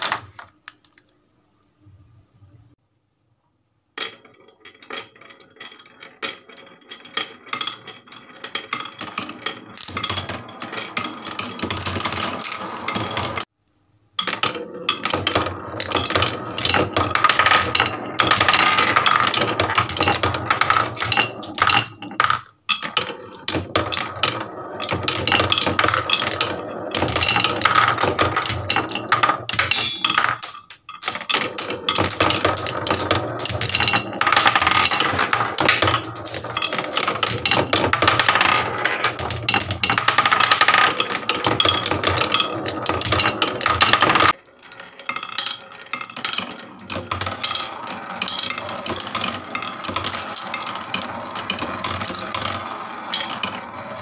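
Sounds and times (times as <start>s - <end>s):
glass marbles rattling down wooden run: 4.0s - 13.5s, 14.2s - 54.0s.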